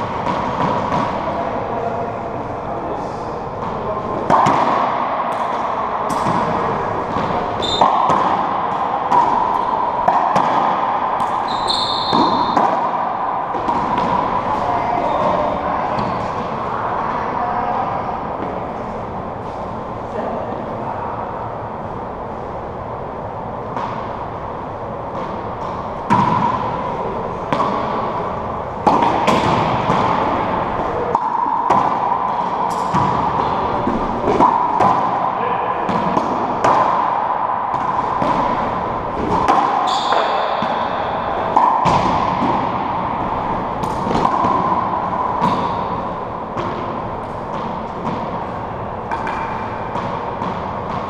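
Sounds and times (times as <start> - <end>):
racquetball hits echoing: 0.0 - 2.1, 2.9 - 19.9, 23.0 - 51.0.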